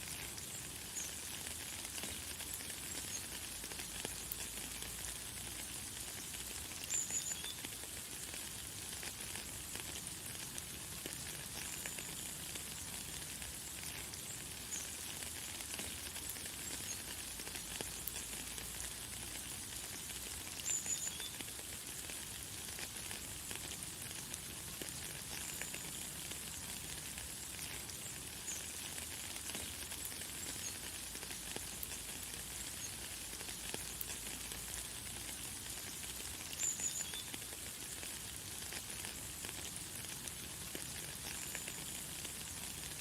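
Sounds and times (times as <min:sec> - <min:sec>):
light rain hiss: 0:00.0 - 0:43.0.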